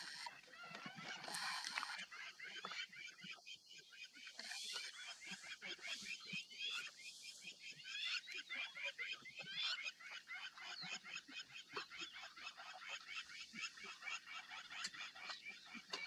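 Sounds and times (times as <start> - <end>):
birds chirping chorus: 0.0 - 16.0.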